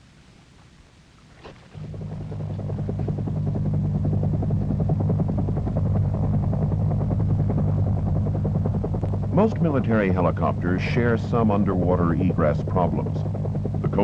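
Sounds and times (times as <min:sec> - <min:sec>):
helicopter rotor and engine: 0:01.7 - 0:14.0.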